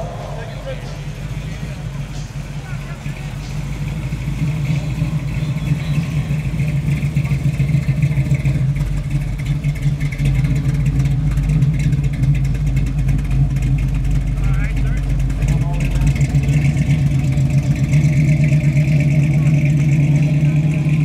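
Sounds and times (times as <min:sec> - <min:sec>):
car engine exhaust rumble: 0:00.0 - 0:21.0.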